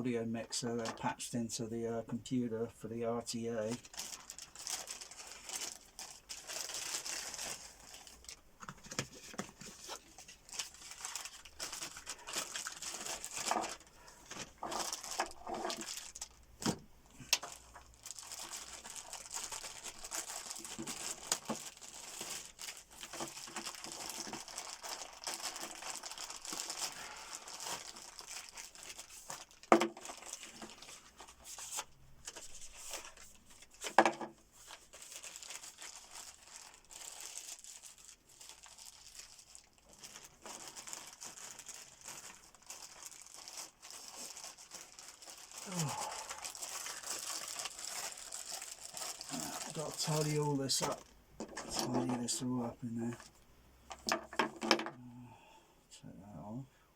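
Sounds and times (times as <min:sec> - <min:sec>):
packaging crinkling and rustling: 0:03.2 - 0:54.9.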